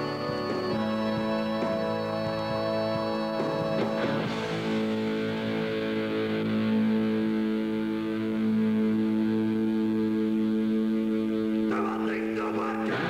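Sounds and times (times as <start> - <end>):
distorted electric guitar chord: 0.0 - 13.0.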